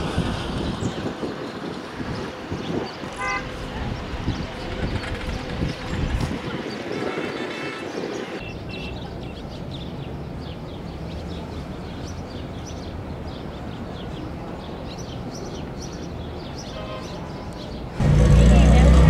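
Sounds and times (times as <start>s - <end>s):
small birds chirping: 0.6s - 18.6s.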